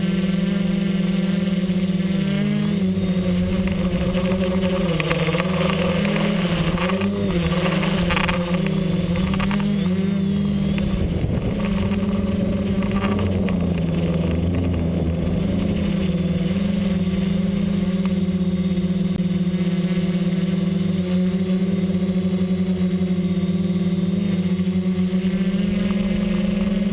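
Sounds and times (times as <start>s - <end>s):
drone propellers humming: 0.0s - 26.9s.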